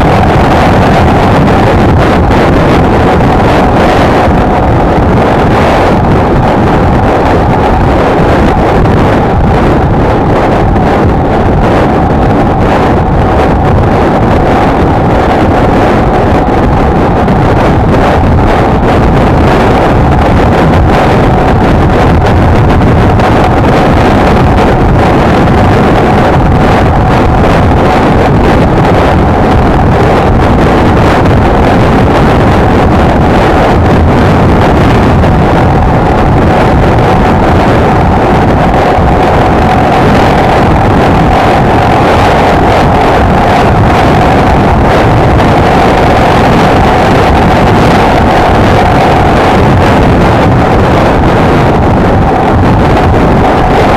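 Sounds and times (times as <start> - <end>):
wind noise on microphone: 0.0 - 53.9.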